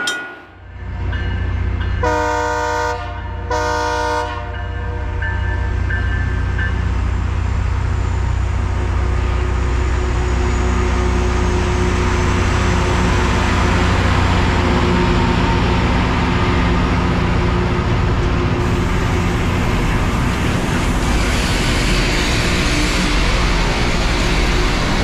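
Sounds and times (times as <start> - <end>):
diesel engines of passing train: 0.0 - 25.0.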